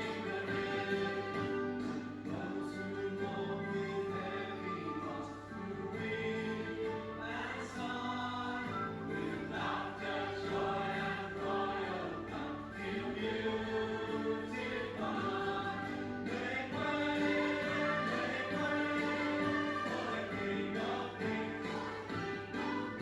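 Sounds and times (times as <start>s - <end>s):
choir singing a hymn: 0.0s - 23.0s
instrumental accompaniment: 0.0s - 23.0s.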